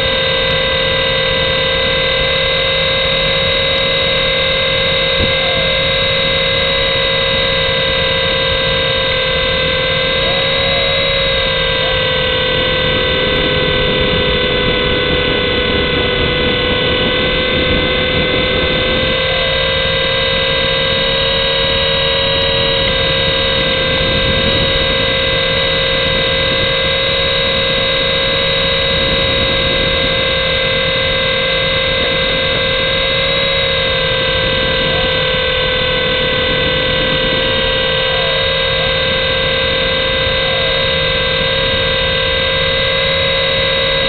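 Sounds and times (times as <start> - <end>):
toy helicopter motors whining: 0.0 - 44.0.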